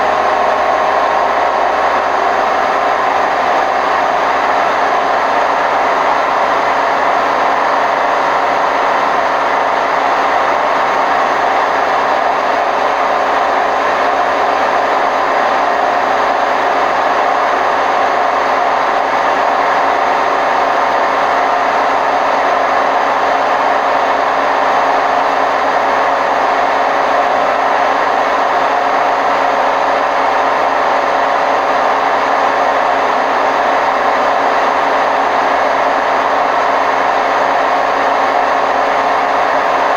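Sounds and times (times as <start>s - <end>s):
washing machine spin cycle: 0.0s - 39.9s.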